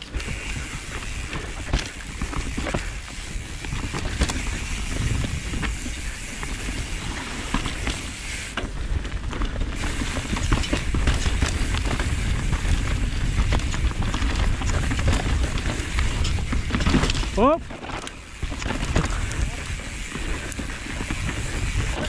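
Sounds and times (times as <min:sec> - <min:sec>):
wind rumble on microphone: 0:00.0 - 0:08.0, 0:08.7 - 0:22.0
bike rattling: 0:00.0 - 0:22.0
tyres on dirt: 0:00.0 - 0:22.0.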